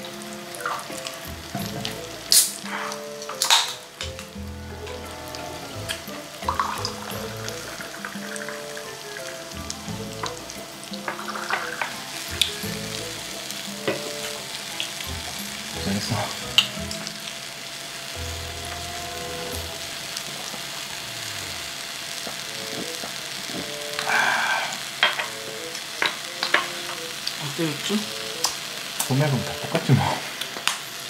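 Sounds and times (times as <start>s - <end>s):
meat sizzling on grill pan: 0.0s - 31.0s.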